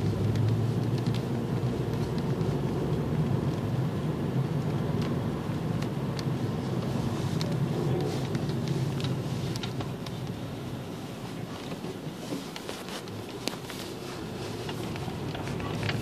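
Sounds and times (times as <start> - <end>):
car engine and tyre hum: 0.0 - 16.0.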